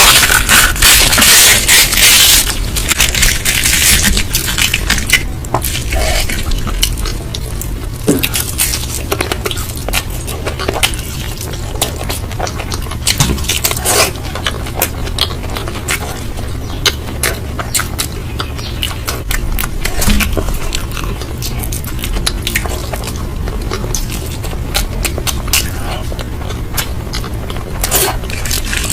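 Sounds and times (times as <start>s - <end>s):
food being crunched and chewed: 0.0s - 28.9s
steady low hum: 0.0s - 28.9s.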